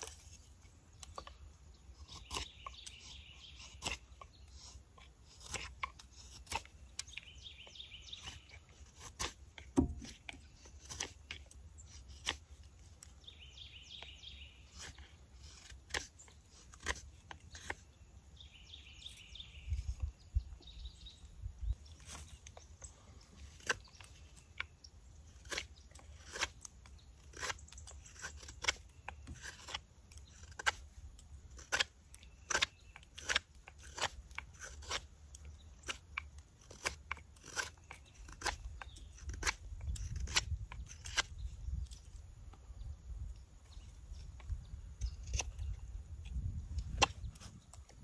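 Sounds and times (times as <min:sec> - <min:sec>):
carving blade slicing wood: 0:00.0 - 0:20.8, 0:21.8 - 0:42.6, 0:43.7 - 0:48.0.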